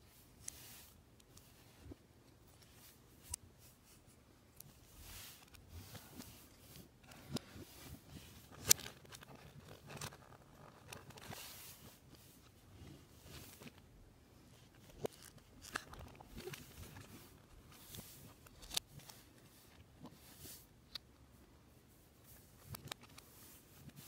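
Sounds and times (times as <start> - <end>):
soft rustling: 0.0 - 24.0.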